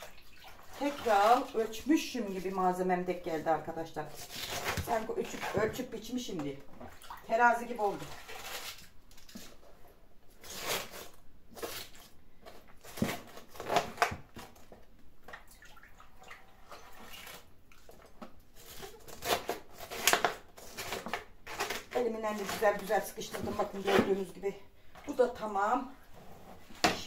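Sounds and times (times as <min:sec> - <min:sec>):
vegetables squishing by hand: 0:00.0 - 0:24.4.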